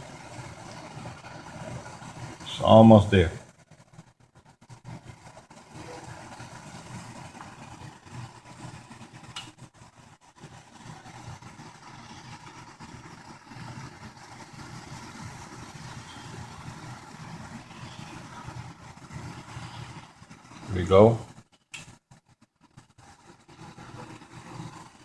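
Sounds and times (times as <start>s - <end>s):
water boiling in a pot: 0.0s - 25.0s.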